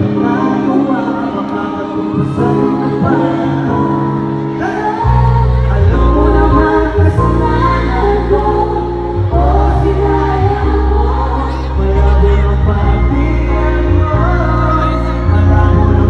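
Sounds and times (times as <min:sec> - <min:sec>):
concert backing track: 0:00.0 - 0:16.0
vocals sung into microphones: 0:00.0 - 0:16.0
deep heavy bass line: 0:02.2 - 0:16.0.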